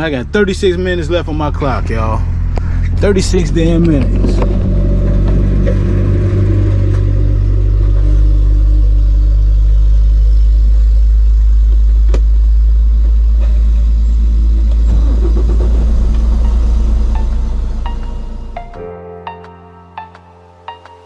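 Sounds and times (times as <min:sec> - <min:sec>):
diesel truck engine running: 0:00.0 - 0:18.8.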